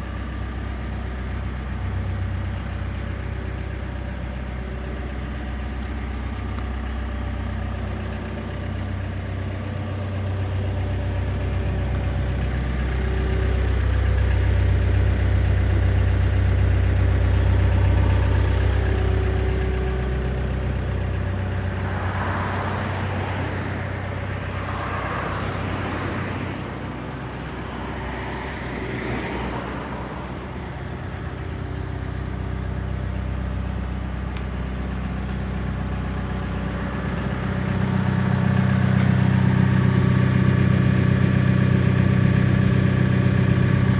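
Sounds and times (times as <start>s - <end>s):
excavator diesel engine idling: 0.0s - 43.9s.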